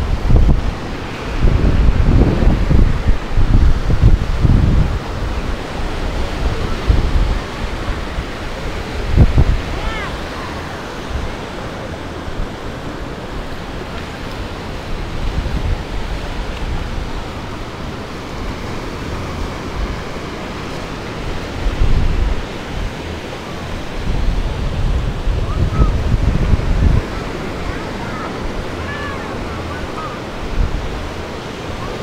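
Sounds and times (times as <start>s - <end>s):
ocean surf washing onto beach: 0.0s - 32.0s
wind buffeting microphone: 0.0s - 32.0s.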